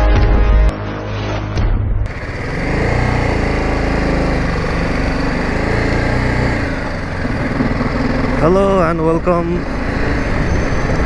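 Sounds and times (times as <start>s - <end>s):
motorcycle engine running: 2.1s - 11.0s.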